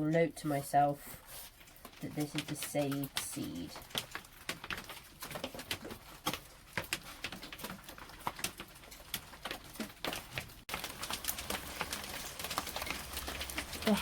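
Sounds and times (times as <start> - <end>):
hailstones striking: 1.6 - 14.0.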